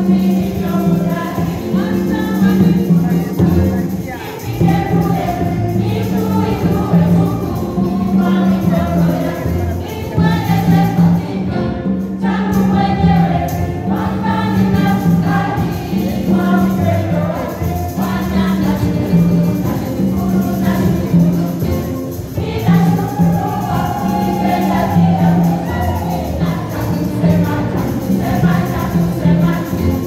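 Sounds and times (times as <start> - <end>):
choir singing gospel: 0.0 - 30.0.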